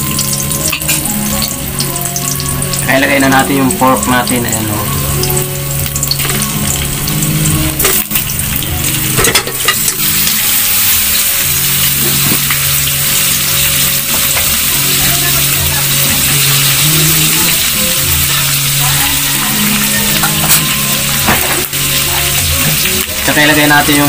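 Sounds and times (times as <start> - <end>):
meat sizzling in oil: 0.0 - 24.0.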